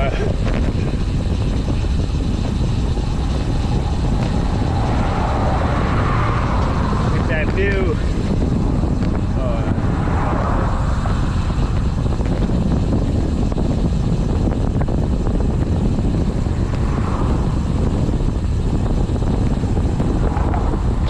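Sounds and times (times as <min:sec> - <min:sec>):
engine droning: 0:00.0 - 0:21.0
wind buffeting microphone: 0:00.0 - 0:21.0.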